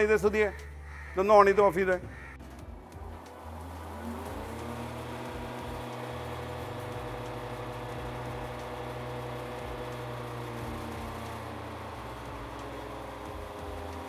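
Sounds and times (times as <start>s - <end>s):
chaff cutter motor humming: 2.1s - 14.0s.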